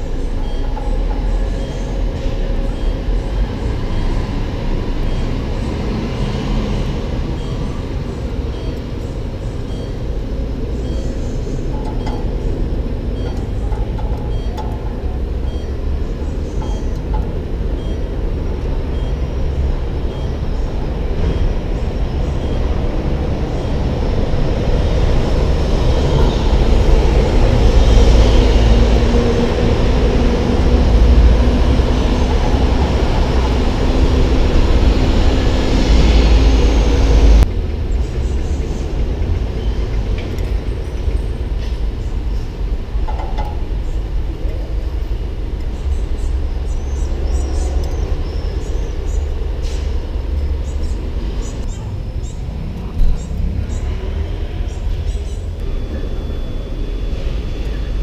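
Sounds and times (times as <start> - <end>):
heavy vehicle engine running: 0.0 - 58.0
street traffic rumble: 0.0 - 58.0.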